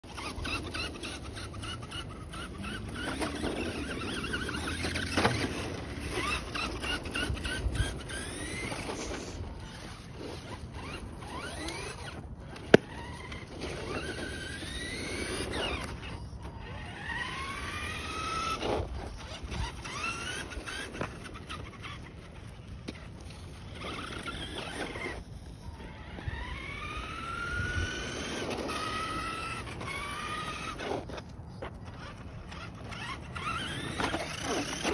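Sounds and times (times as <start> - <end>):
toy truck motor whining: 0.0 - 34.9.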